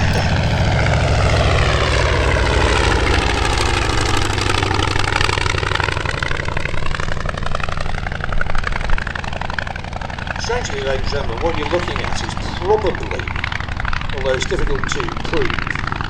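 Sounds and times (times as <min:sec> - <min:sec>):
propeller aircraft engine passing: 0:00.0 - 0:16.0.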